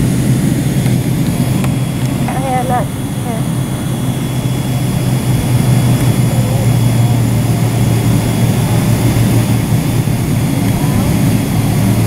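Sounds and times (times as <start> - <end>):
jet engines humming: 0.0 - 12.0.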